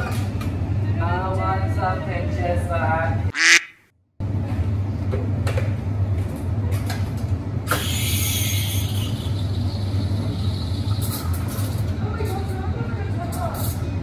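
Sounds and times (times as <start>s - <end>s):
low hum of cafe equipment: 0.0s - 3.6s, 4.2s - 14.0s.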